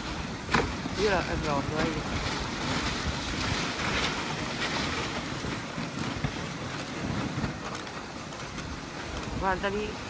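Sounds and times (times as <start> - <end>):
sled runners hissing on snow: 0.0 - 10.0
wind on microphone: 0.0 - 10.0.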